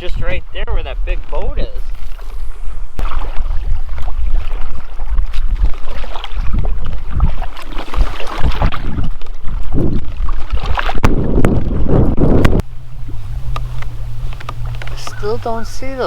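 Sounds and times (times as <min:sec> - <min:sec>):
paddle water splashing: 0:00.0 - 0:16.0
wind buffeting microphone: 0:00.0 - 0:16.0.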